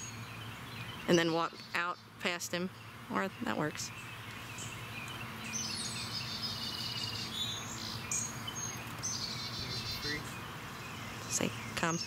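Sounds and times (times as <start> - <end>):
low background hum: 0.0 - 12.0
songbirds chirping and trilling: 0.0 - 12.0.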